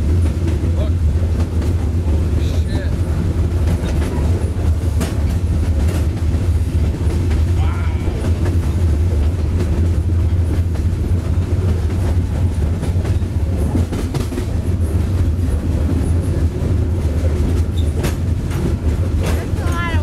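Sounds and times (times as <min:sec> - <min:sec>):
train rumble: 0:00.0 - 0:20.0
train wheels clicking and clanking: 0:00.0 - 0:20.0.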